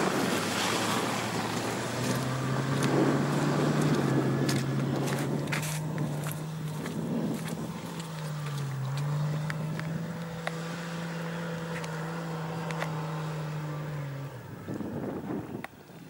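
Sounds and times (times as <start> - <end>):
suv engine running under load: 0.0 - 15.6.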